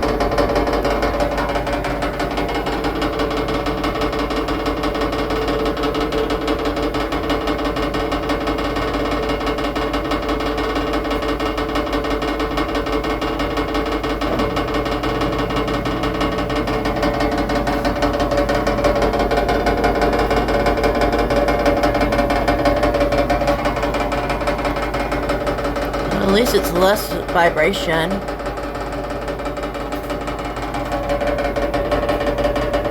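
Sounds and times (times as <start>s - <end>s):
rhythmic knocking rattle: 0.0s - 26.5s, 28.2s - 32.9s
washing machine spinning: 0.0s - 32.9s.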